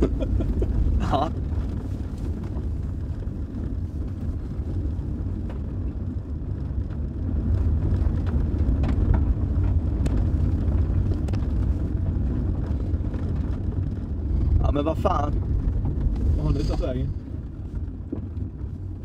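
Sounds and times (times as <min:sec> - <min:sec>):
engine and tyres rumbling on gravel: 0:00.0 - 0:19.0.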